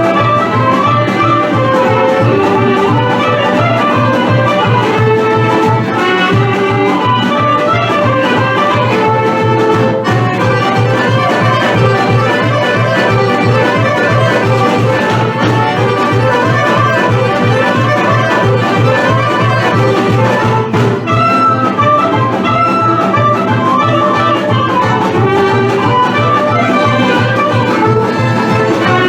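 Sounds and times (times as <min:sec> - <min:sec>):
instrumental folk dance music: 0:00.0 - 0:29.0.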